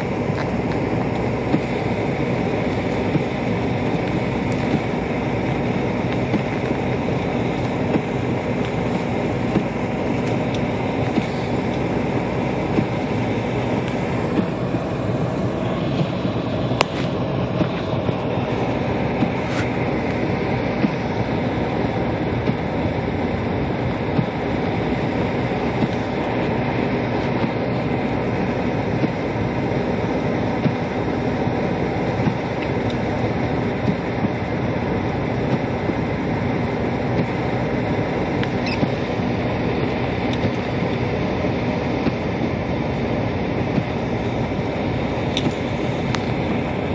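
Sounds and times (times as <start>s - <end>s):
car heater fan blowing: 0.0s - 46.9s.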